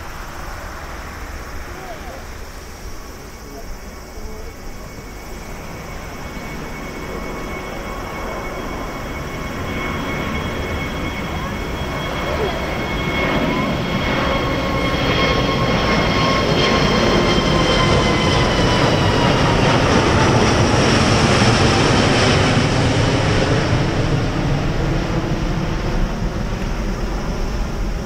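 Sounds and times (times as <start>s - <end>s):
jet airliner passing overhead: 0.0s - 28.0s.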